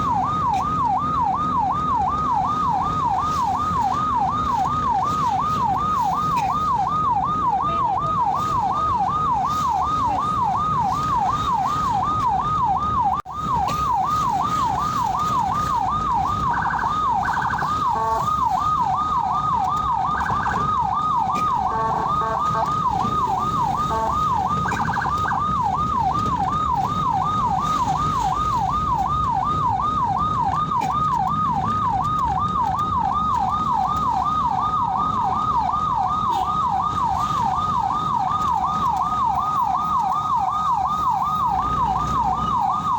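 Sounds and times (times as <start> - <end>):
ambulance siren yelping: 0.0 - 42.9
engine and road noise: 0.0 - 42.9.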